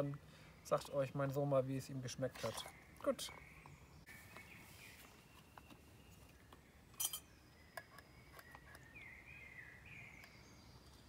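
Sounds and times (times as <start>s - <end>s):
faint birdsong: 0.0s - 11.0s.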